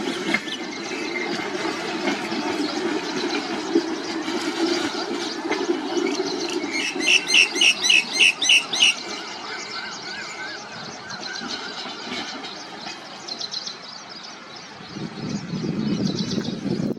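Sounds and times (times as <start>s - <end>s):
steady rushing rumble: 0.0s - 16.9s.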